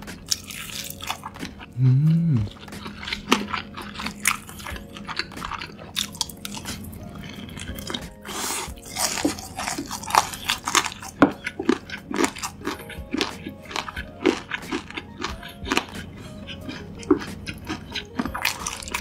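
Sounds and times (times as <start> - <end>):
crunching fried chicken: 0.0 - 19.0.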